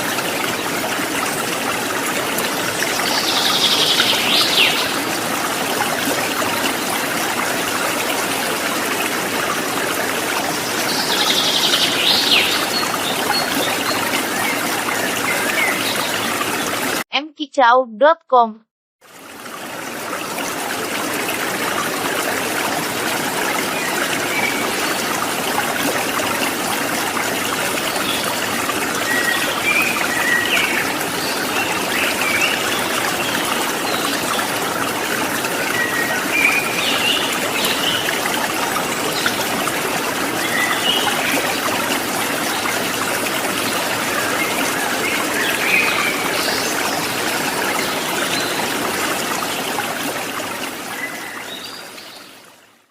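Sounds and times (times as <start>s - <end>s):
water trickling and splashing: 0.0s - 17.1s, 19.0s - 52.9s.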